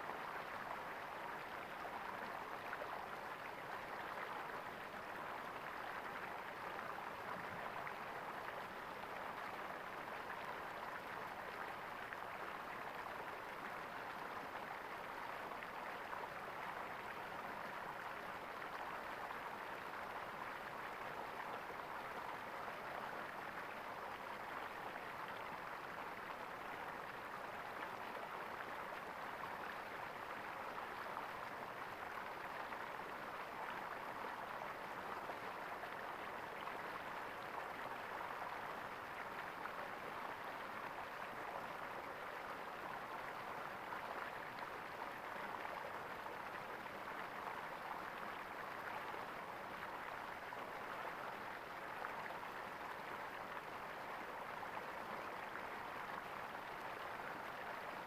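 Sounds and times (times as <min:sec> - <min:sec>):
flowing water gurgling: 0:00.0 - 0:58.0.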